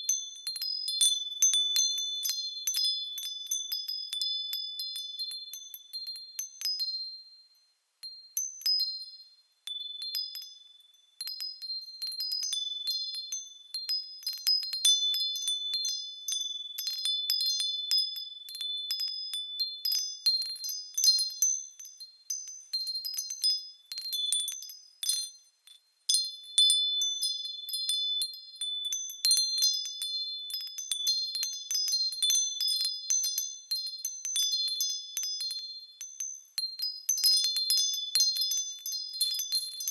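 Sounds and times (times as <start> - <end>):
small bells tinkling: 0.0 - 39.9.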